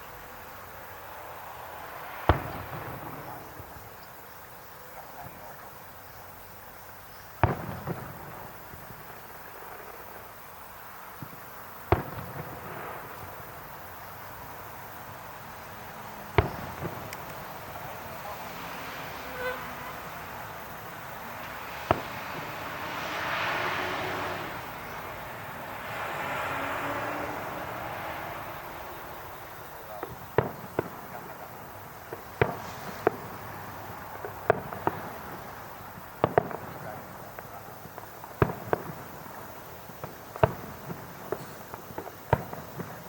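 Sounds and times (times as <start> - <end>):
firework crackle: 0.0 - 43.0
firework shells bursting: 1.6 - 4.1, 7.4 - 43.0.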